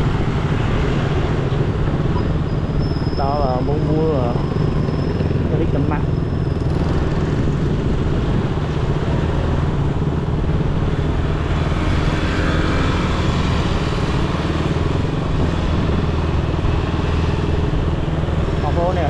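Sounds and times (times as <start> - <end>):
road and wind noise: 0.0 - 19.0
motorbike engine running: 1.1 - 19.0.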